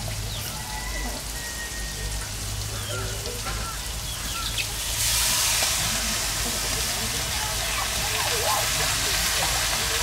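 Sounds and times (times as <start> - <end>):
rice hissing in hot oil: 0.0 - 10.0.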